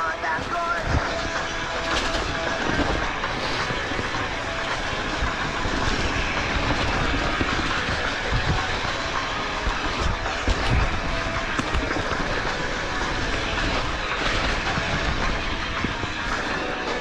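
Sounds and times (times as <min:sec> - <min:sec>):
bike rattling over rough trail: 0:00.0 - 0:17.0.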